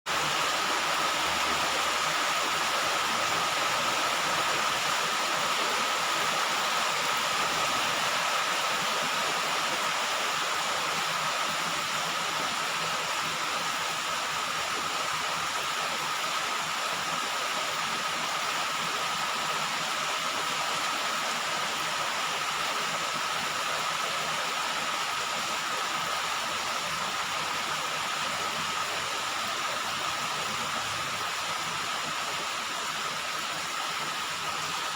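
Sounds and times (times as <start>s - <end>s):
heavy rain on a roof: 0.1s - 34.9s.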